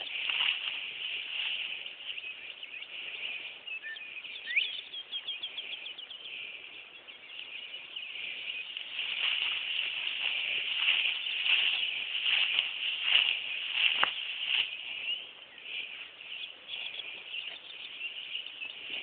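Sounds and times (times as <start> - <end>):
bird singing with trill: 1.3 - 19.0.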